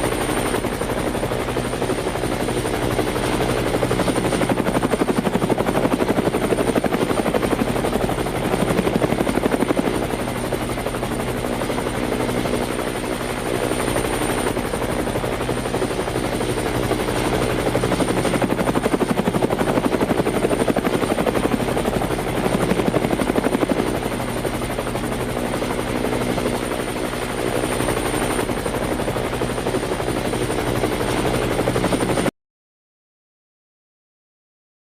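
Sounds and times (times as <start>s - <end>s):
helicopter rotor beating: 0.0s - 32.3s.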